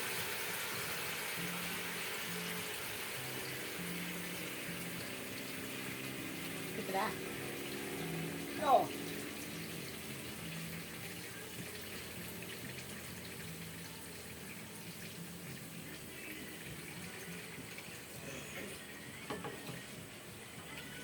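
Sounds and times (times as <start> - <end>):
water running from a tap: 0.0 - 19.9.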